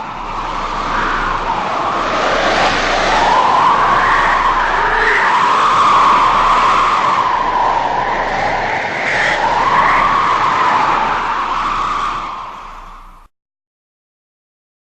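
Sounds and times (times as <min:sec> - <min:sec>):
howling wind: 0:00.0 - 0:13.3.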